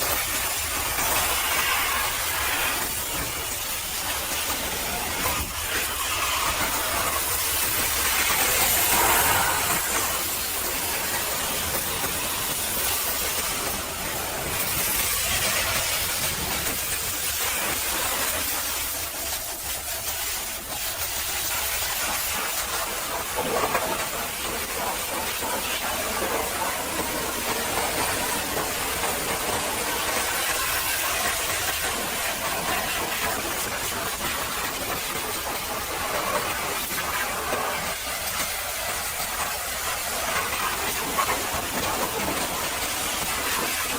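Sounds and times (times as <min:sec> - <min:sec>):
pressure washer spraying: 0:00.0 - 0:43.9.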